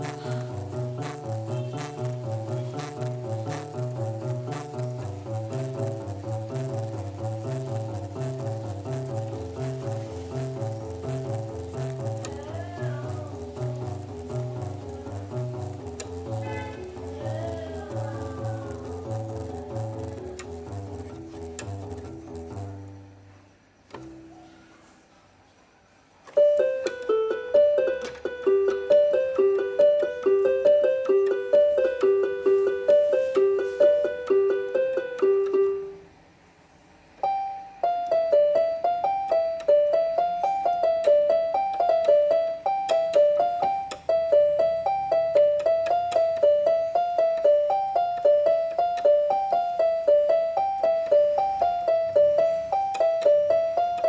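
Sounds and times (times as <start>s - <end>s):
electronic keyboard repeating figure: 0.0s - 23.3s, 26.4s - 36.1s, 37.2s - 54.0s.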